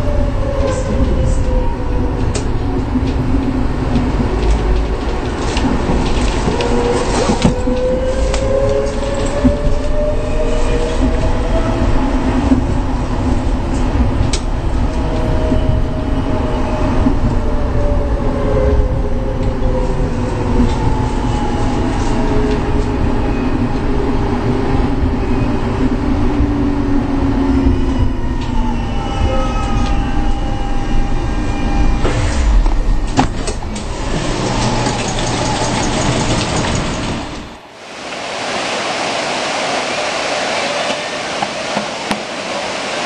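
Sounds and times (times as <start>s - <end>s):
rail vehicle rumbling: 0.0s - 43.0s.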